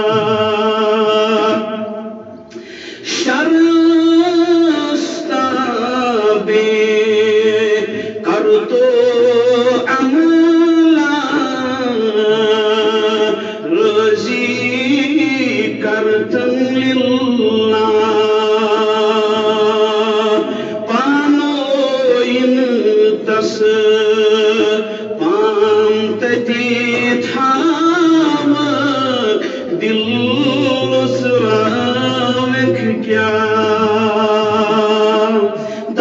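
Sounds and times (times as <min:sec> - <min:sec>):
man singing devotional poem: 0:00.0 - 0:36.0.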